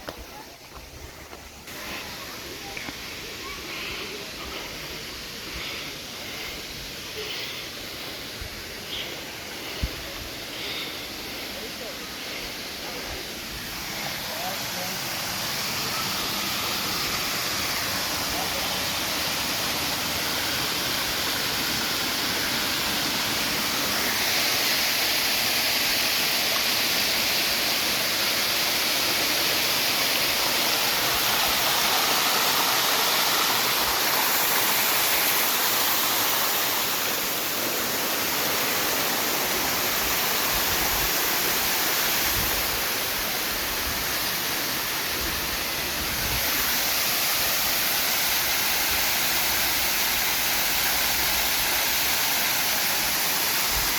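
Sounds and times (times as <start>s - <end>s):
waterfall rushing and splashing: 0.0s - 53.9s.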